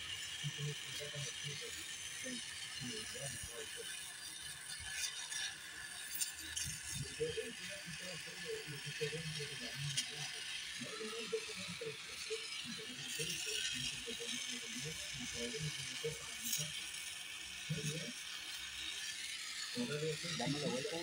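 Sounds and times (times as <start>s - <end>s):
welding torch flame hissing: 0.0s - 21.0s.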